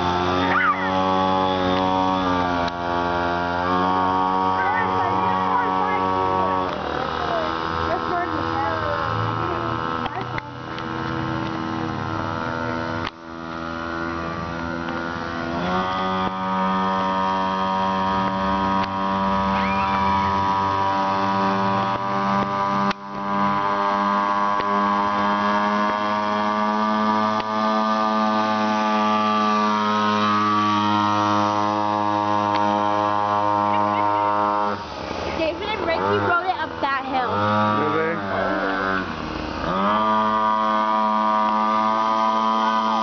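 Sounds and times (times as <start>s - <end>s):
mini-bike engine running: 0.0s - 43.0s.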